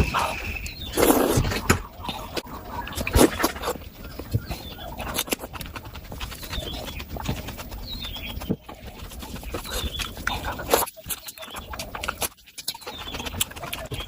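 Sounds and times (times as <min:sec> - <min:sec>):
wet chewing and lip smacking: 0:00.0 - 0:14.0.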